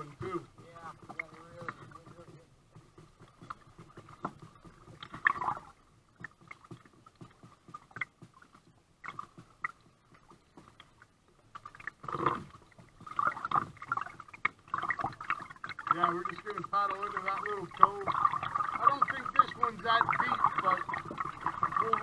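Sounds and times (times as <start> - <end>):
paddle splashing in water: 0.0 - 22.0
water dripping: 0.0 - 22.0.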